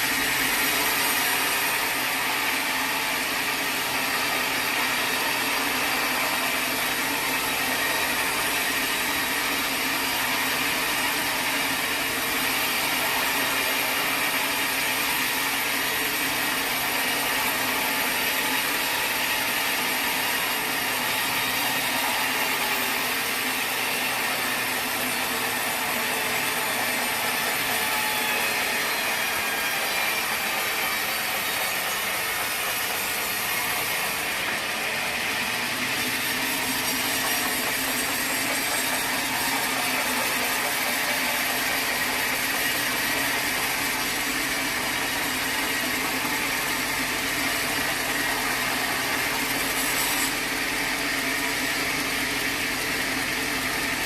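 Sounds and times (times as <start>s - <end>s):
saw cutting through log: 0.0s - 54.0s.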